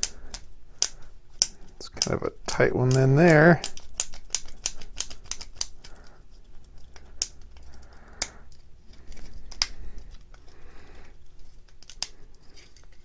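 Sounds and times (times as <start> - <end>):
plastic snapping clicks and cracks: 0.0 - 10.4, 11.6 - 13.0.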